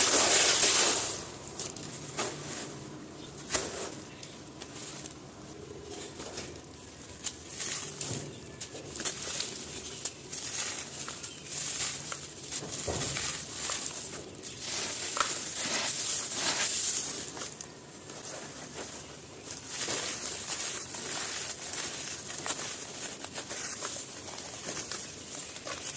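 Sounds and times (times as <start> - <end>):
crumbly material crunching by hand: 0.0 - 25.9.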